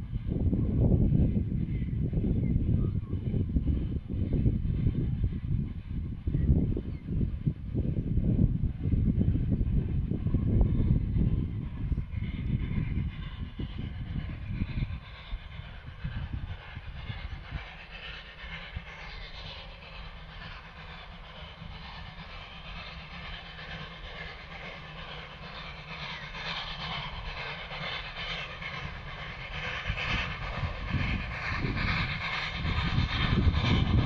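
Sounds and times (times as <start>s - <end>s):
steam locomotive exhaust beats: 0.0s - 34.0s
wind buffeting microphone: 0.0s - 34.0s.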